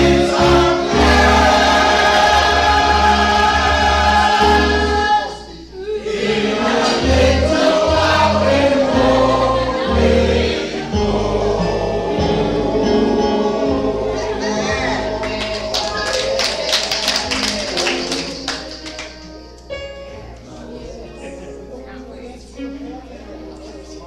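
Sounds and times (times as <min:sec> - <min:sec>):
choir singing a gospel hymn: 0:00.0 - 0:19.4.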